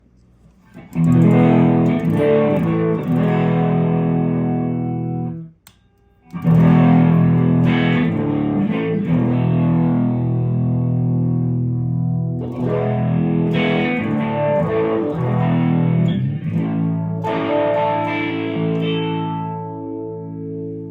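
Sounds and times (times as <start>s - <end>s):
electric guitar chord ringing: 0.8s - 5.5s, 6.2s - 20.9s.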